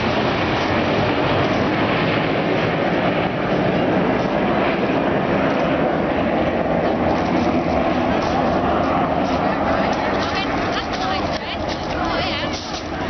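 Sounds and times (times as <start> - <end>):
jet engines in flight: 0.0 - 13.0.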